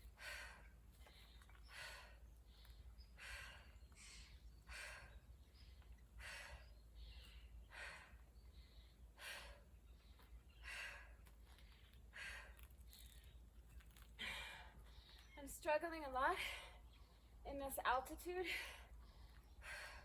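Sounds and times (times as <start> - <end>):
woman breathing hard: 0.0 - 13.2, 14.0 - 15.3, 18.5 - 20.0.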